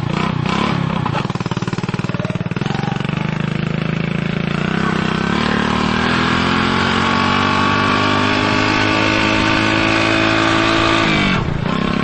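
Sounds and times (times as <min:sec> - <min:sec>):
engine at high revs: 0:00.0 - 0:12.0.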